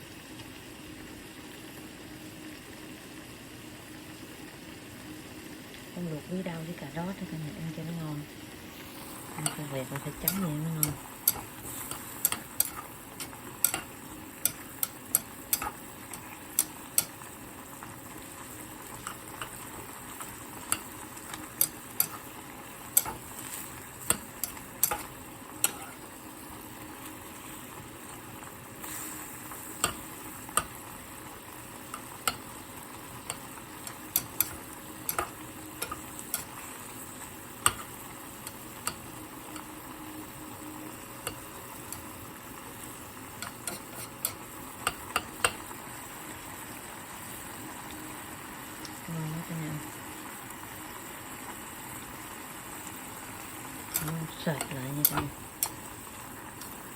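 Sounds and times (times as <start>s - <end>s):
sauce sizzling and bubbling in pot: 0.0s - 56.9s.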